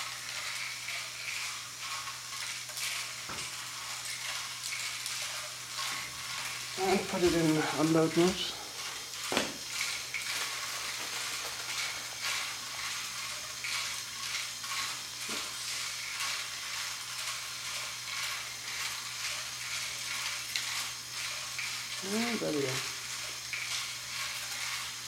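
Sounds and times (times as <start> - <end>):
motor humming: 0.0 - 25.0
plastic bricks rattling: 0.0 - 25.0.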